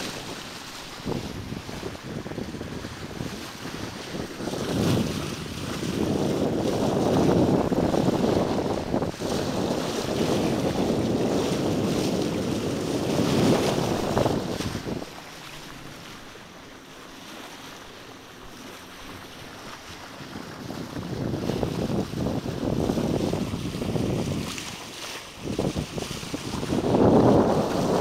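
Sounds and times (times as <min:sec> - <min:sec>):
water rushing along boat bow: 0:00.0 - 0:28.0
wind buffeting microphone: 0:00.0 - 0:28.0.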